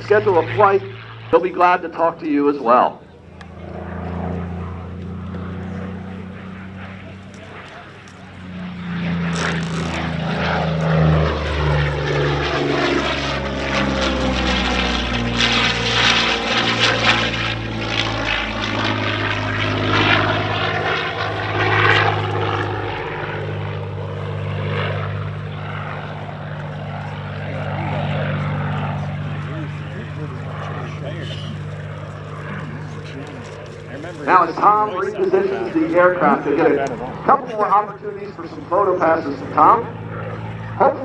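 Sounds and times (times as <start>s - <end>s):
aircraft engine running hard: 0.0s - 41.0s
fighter plane passing rush: 0.0s - 41.0s.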